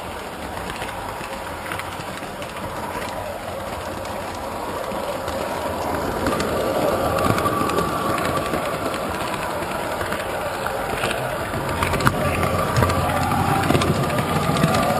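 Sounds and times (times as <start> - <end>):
model train wheels rolling on rails: 0.0 - 14.9.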